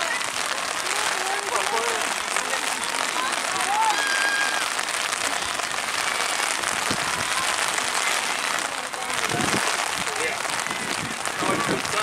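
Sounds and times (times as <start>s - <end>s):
faint distant shouts: 0.0s - 12.0s
steady rain falling: 0.0s - 12.0s.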